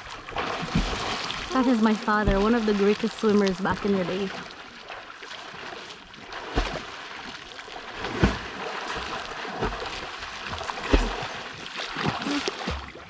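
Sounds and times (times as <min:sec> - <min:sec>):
creek water splashing around swimmer: 0:00.0 - 0:13.0.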